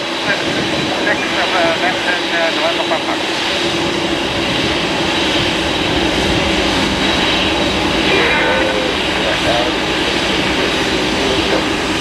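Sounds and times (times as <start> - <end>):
faint high engine whine: 0.0 - 12.0
jet engines rushing: 0.0 - 12.0.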